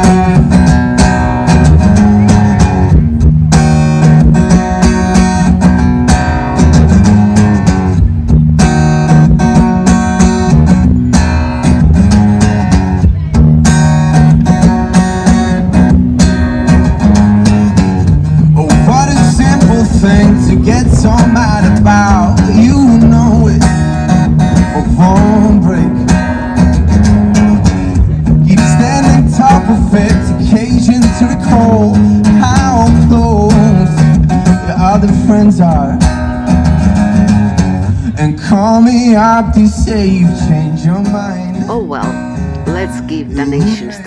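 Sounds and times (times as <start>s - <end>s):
repeating bass line: 0.0s - 38.2s
amplified acoustic guitar: 0.0s - 44.0s.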